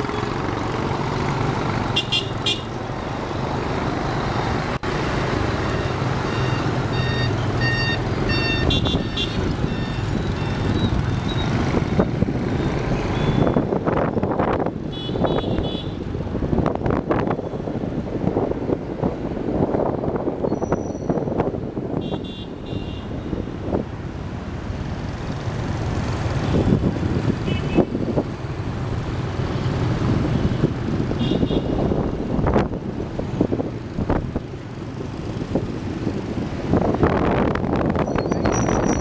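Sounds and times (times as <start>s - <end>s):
city traffic rumble: 0.0s - 39.0s.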